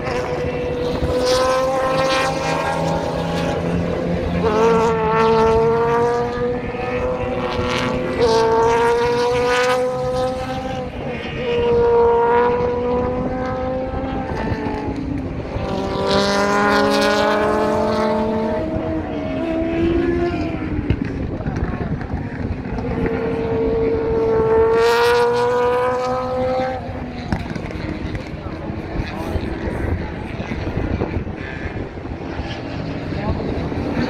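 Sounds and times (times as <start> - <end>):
race car engines accelerating: 0.0 - 34.0.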